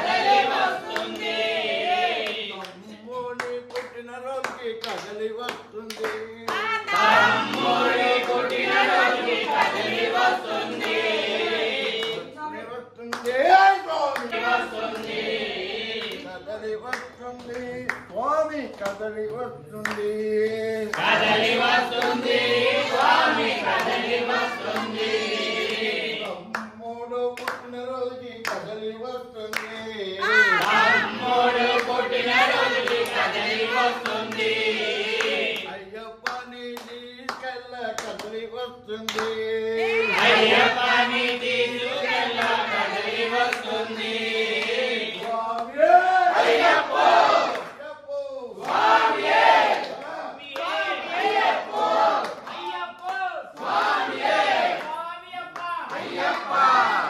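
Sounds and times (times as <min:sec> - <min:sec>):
hands clapping: 0:00.0 - 0:12.4, 0:13.0 - 0:20.2, 0:20.9 - 0:26.8, 0:27.4 - 0:28.8, 0:29.5 - 0:47.9, 0:48.6 - 0:57.0
men chanting: 0:00.0 - 0:47.7.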